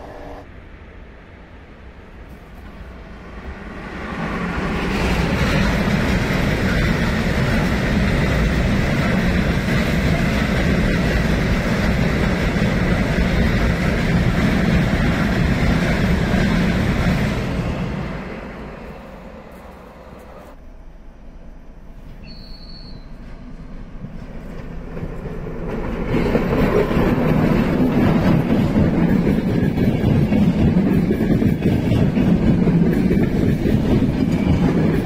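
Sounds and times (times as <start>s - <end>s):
freight train passing: 0.0s - 35.0s
train wheels on rails: 2.2s - 20.8s, 21.7s - 35.0s.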